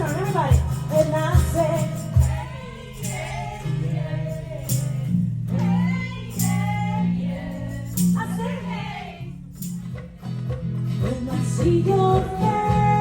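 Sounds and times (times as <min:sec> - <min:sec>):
acoustic accompaniment: 0:00.0 - 0:13.0.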